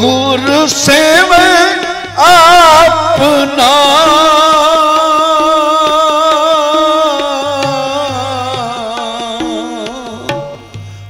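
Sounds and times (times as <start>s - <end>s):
harmonium: 0.0s - 11.0s
man singing with vibrato: 0.0s - 11.0s.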